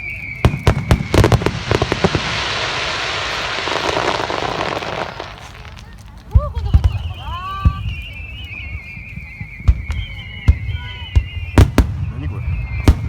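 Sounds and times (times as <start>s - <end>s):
fireworks crackling: 0.0s - 13.0s
loud firework bursts: 0.0s - 13.0s.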